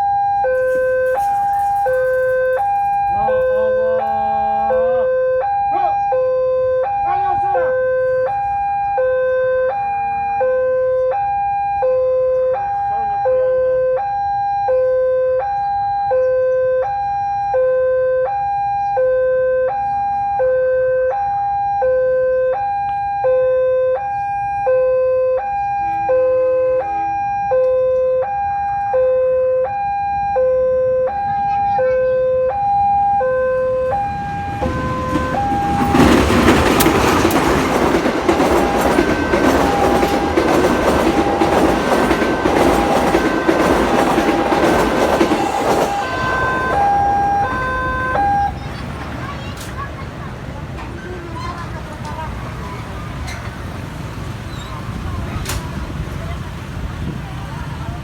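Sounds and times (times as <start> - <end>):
two-tone level crossing alarm: 0.0 - 48.6.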